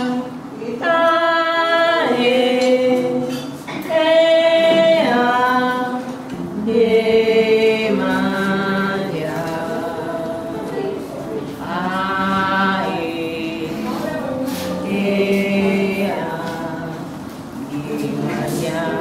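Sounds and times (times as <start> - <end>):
two women singing: 0.0 - 19.0.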